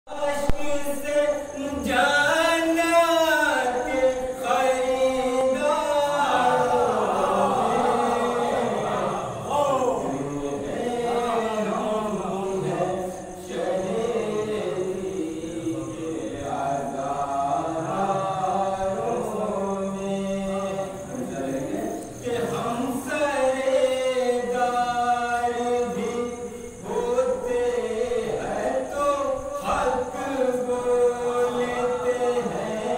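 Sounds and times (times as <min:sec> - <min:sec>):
man chanting into a microphone: 0:00.1 - 0:32.9.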